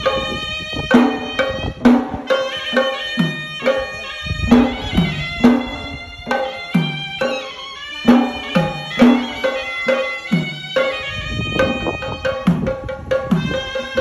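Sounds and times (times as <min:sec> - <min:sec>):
drum strokes: 0:00.0 - 0:14.0
reedy pipe melody: 0:00.0 - 0:14.0.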